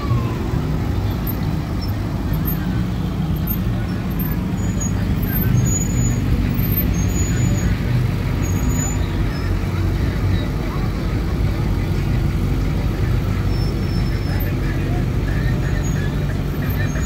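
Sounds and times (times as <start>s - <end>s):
motor vehicle rumbling: 0.0s - 17.0s.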